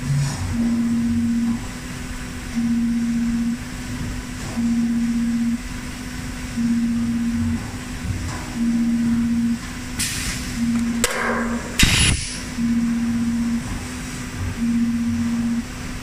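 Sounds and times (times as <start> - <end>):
flanging machine humming: 0.0 - 16.0.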